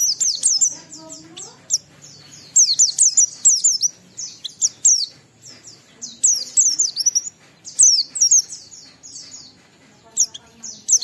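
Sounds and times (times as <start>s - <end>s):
bird singing high chirps: 0.0s - 11.0s.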